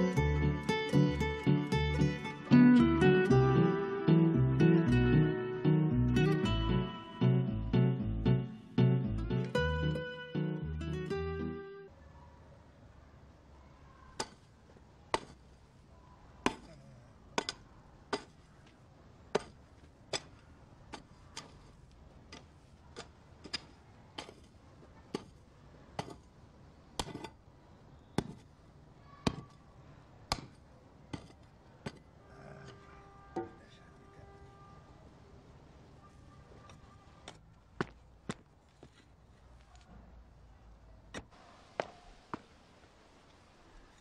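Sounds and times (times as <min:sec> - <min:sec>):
low steady background: 0:00.0 - 0:44.0.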